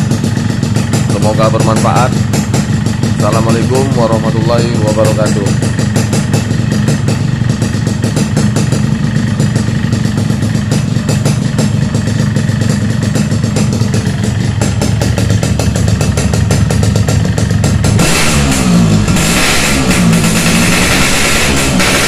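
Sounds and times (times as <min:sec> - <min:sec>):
motorcycle engine idling: 0:00.0 - 0:22.0
slight engine rattle: 0:00.0 - 0:22.0.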